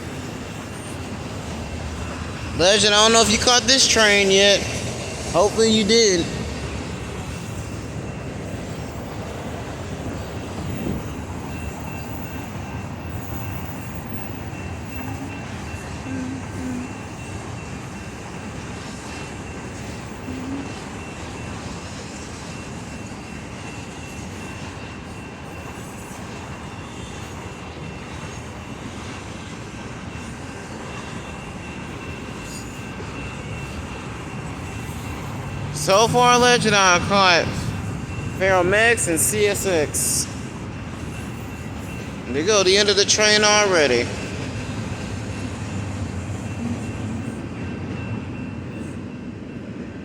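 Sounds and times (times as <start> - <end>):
freight train cars rumbling: 0.0 - 50.0.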